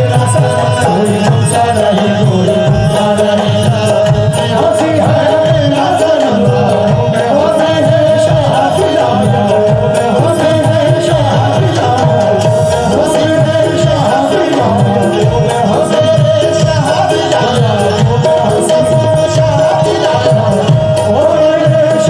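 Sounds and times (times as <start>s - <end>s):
hand drum rhythm: 0.0s - 22.0s
harmonium melody: 0.0s - 22.0s
person singing: 0.0s - 22.0s.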